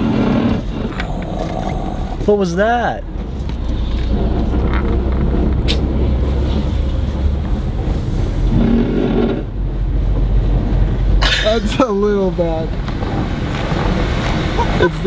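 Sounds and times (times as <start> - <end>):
road and engine rumble: 0.0 - 15.0
tire scraping wheel well: 0.0 - 15.0.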